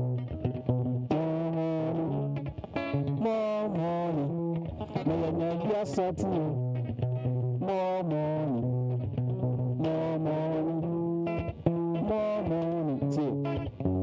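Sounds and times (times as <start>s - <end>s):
guitar accompaniment: 0.0s - 14.0s
man singing into microphone: 1.0s - 6.8s, 7.5s - 9.0s, 9.6s - 14.0s.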